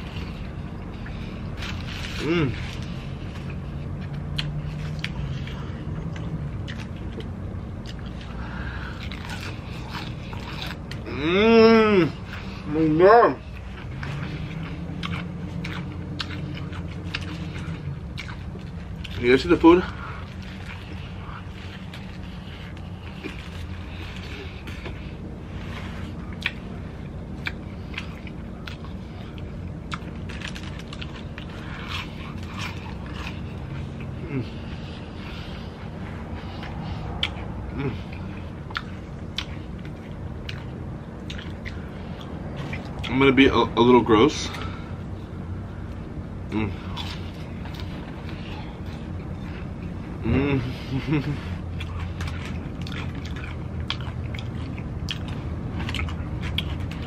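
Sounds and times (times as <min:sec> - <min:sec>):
mouth chewing food: 0:00.0 - 0:57.0
steady low hum: 0:00.0 - 0:57.0.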